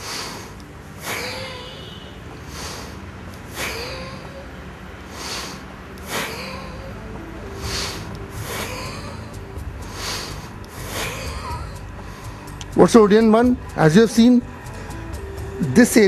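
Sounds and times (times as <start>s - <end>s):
man breathing forcefully: 0.0s - 12.8s, 14.5s - 15.6s.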